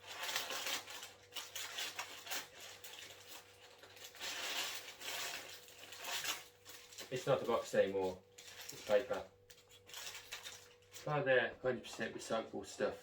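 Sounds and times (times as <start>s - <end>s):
paper packaging crinkling: 0.0s - 12.9s.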